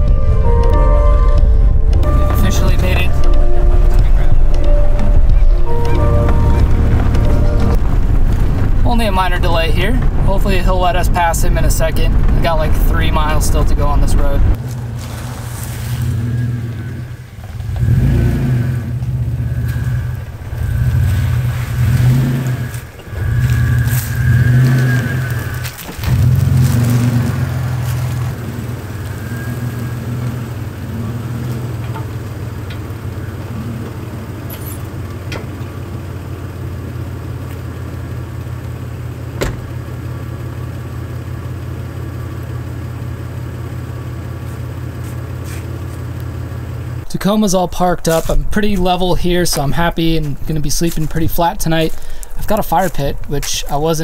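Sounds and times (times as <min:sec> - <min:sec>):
pickup truck engine at low speed: 0:00.0 - 0:54.0.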